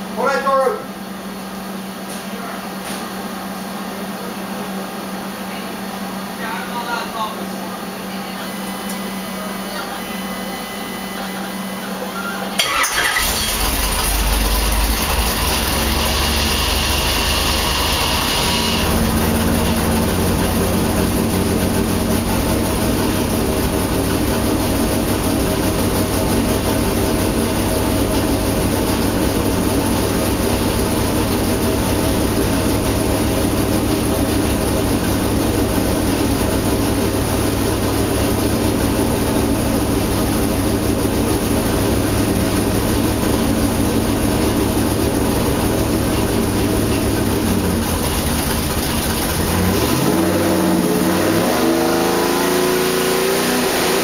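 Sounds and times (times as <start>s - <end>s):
loud engine running steadily: 0.0s - 54.0s.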